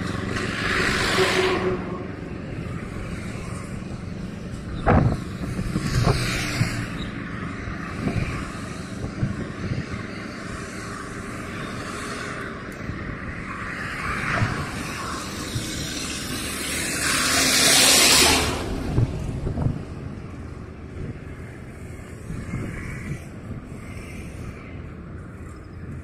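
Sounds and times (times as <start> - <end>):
passing truck whoosh: 0.0 - 23.8
vehicle road and wind noise: 0.0 - 26.0.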